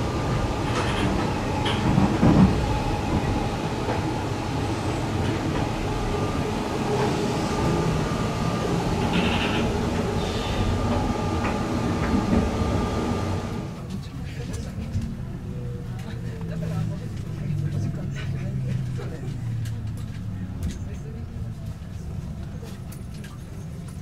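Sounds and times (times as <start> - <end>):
train interior low rumble: 0.0 - 24.0.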